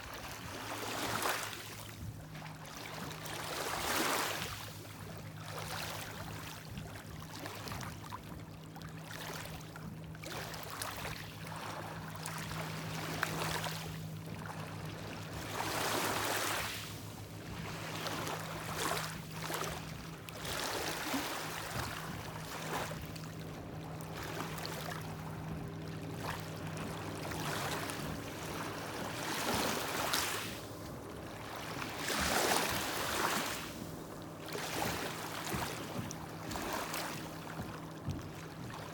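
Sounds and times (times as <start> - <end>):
boat engine drone: 0.0 - 38.9
lake waves washing on shore: 0.0 - 38.9.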